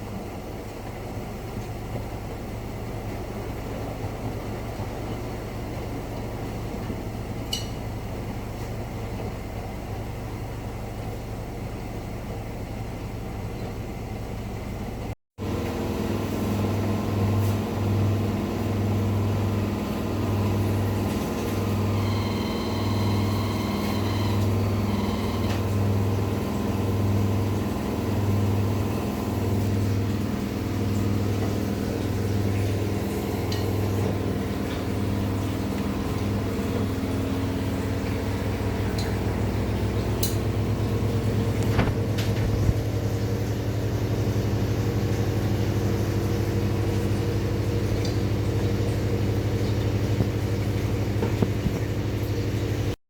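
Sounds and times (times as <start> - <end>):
washing machine humming: 0.0 - 53.0.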